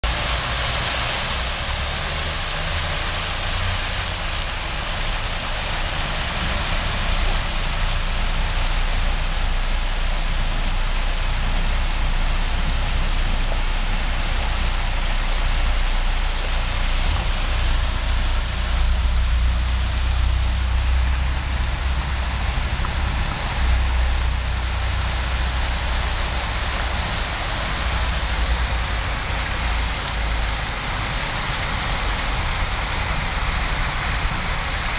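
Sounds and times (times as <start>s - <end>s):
heavy rain pouring: 0.0s - 34.9s
low rumble: 4.1s - 34.9s.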